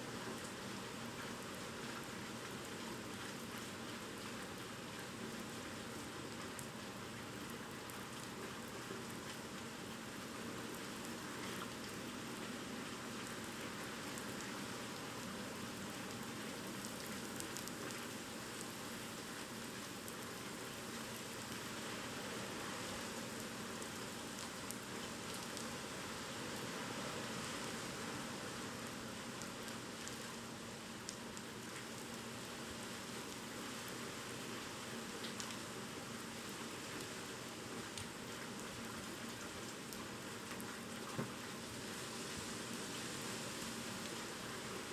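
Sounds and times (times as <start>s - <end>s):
heavy rain hissing on surfaces: 0.0s - 44.9s.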